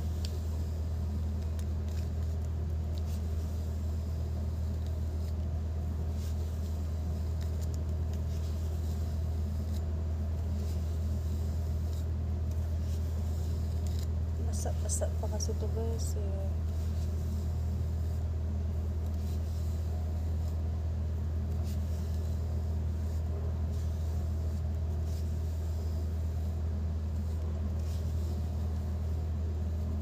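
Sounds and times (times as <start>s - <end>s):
low background hum and rumble: 0.0s - 30.0s.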